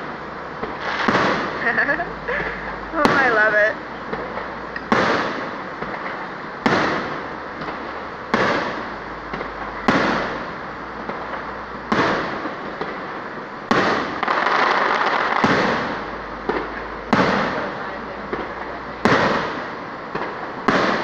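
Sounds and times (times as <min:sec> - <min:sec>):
firework shells booming: 0:00.0 - 0:21.0.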